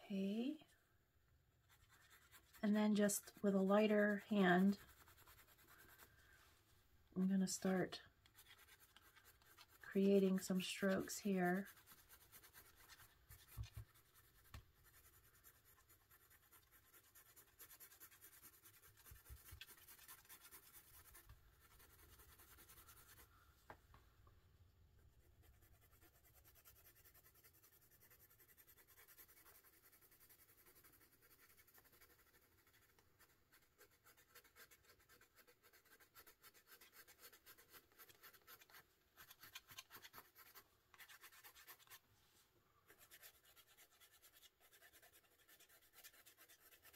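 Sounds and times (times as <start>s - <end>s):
pencil scratching on paper: 1.6s - 6.3s, 7.2s - 23.3s, 25.1s - 42.0s, 42.9s - 46.9s.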